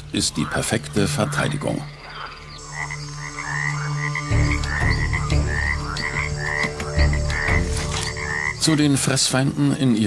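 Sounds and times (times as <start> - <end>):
frogs chirping: 0.0 - 10.0.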